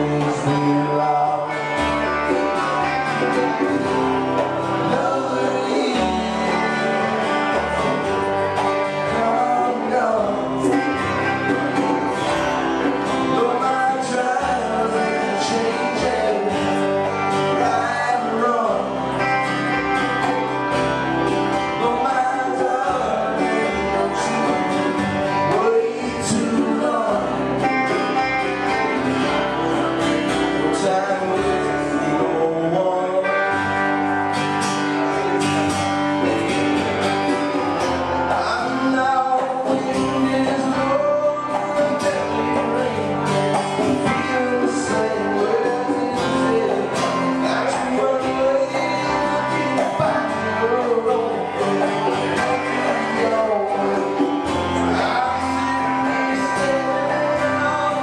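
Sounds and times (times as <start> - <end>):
man singing: 0.0 - 35.4, 36.2 - 58.0
country band with guitar: 0.0 - 58.0.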